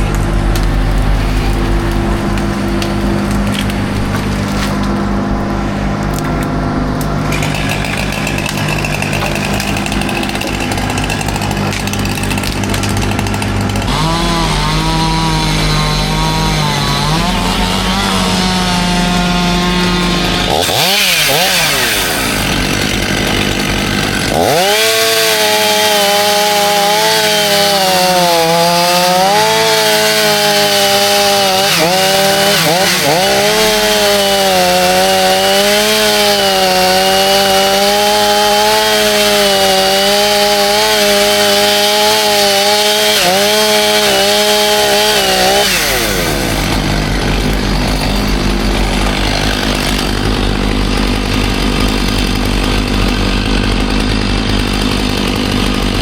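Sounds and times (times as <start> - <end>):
chainsaw cutting at high revs: 7.1 - 56.0.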